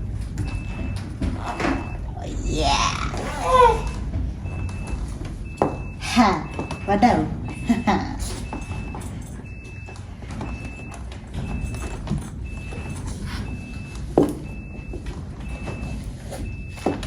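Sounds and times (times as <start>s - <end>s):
low steady rumble: 0.0s - 16.6s
vehicle reversing alarm beeping: 0.0s - 17.0s.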